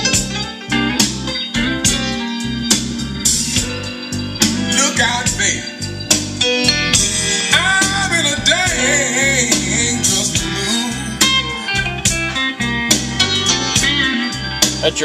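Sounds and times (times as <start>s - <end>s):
guitar song on car radio: 0.0s - 15.0s.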